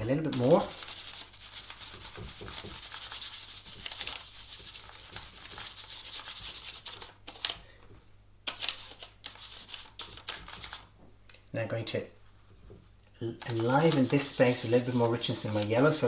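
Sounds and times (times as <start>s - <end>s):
paintbrush scrubbing on paper: 0.2s - 7.2s, 8.7s - 10.9s, 12.2s - 16.0s.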